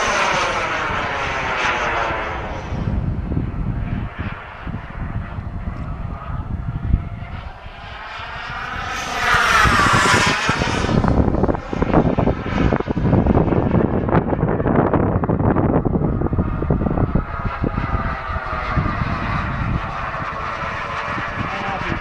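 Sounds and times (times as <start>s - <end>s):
model jet engine whine: 0.0s - 22.0s.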